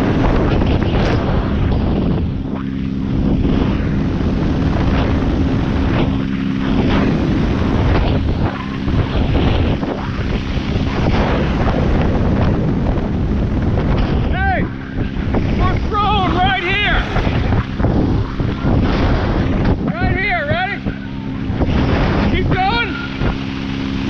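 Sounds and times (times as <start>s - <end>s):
boat engine drone: 0.0s - 24.0s
rush of wake spray: 0.0s - 24.0s
wind buffeting microphone: 0.0s - 24.0s.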